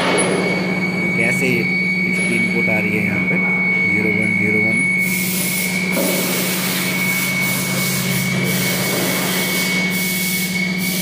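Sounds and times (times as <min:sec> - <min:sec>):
high-pitched machine whine: 0:00.0 - 0:11.0
machine hum: 0:00.0 - 0:11.0.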